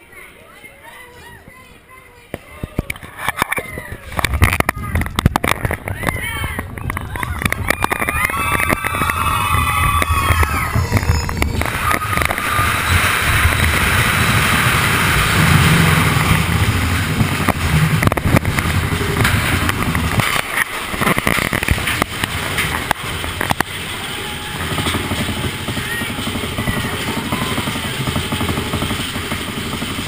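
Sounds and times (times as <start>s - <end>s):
roller coaster cars rumbling: 0.0s - 30.0s
sharp clacks of coaster track: 2.3s - 30.0s.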